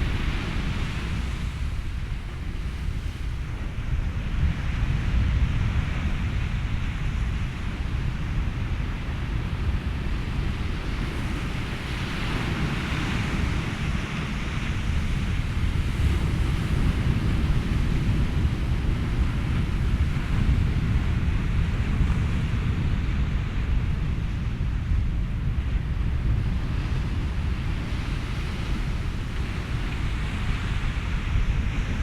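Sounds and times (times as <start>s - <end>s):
low wind rumble: 0.0s - 32.0s
ocean waves washing in: 0.0s - 32.0s.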